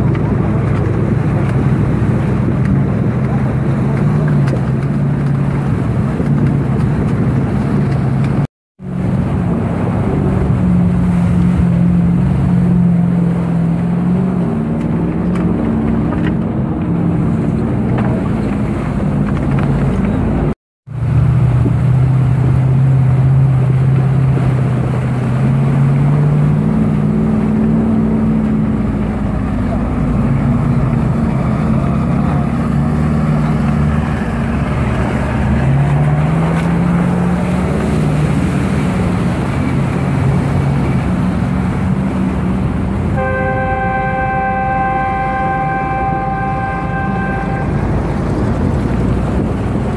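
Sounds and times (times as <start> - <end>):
constant rushing noise: 0.0 - 49.9
engine droning: 0.0 - 49.9.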